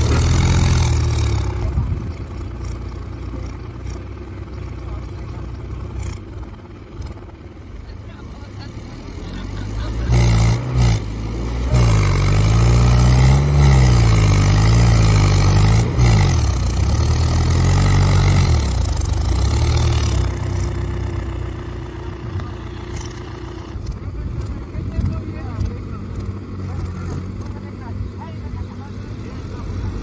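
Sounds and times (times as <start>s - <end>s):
tractor diesel engine revving: 0.0s - 30.0s.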